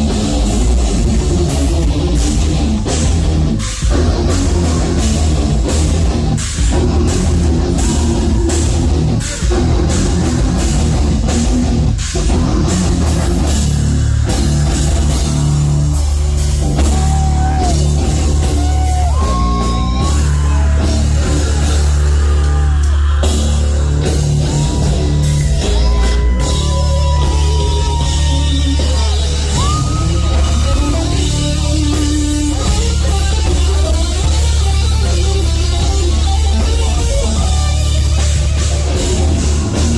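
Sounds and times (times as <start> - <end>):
bass guitar: 0.0 - 39.9
distorted electric guitars: 0.0 - 39.9
fast heavy drumming: 0.0 - 39.9.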